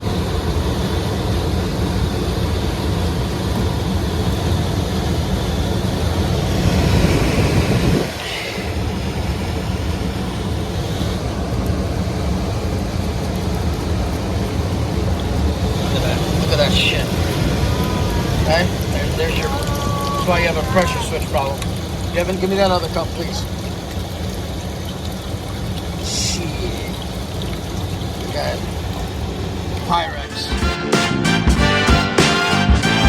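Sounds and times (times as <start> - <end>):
machine rumbling and humming: 0.0 - 33.0.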